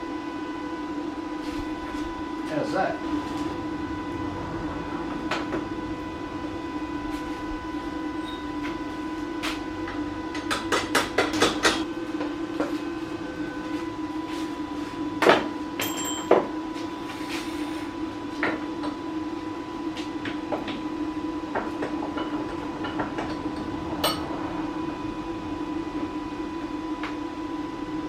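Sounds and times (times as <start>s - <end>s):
machine hum: 0.0s - 15.8s, 18.0s - 28.0s.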